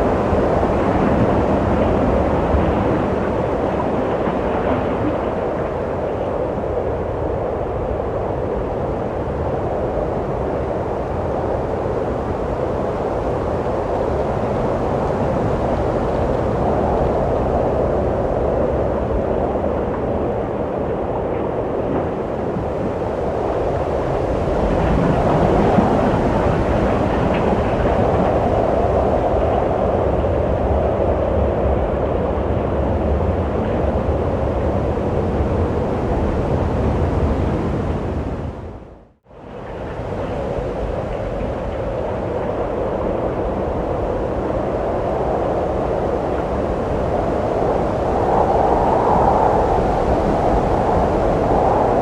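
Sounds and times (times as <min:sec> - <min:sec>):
wind blowing: 0:00.0 - 0:52.0.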